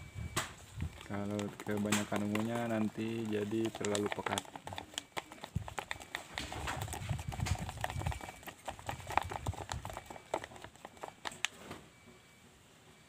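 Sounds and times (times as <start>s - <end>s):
spoon scraping plastic cup: 0.8s - 11.6s.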